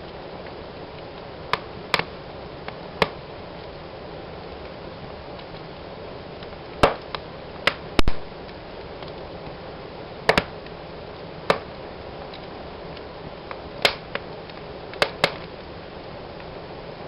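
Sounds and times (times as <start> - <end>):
fire crackles and pops: 0.0 - 17.0
fire hissing: 0.0 - 17.0.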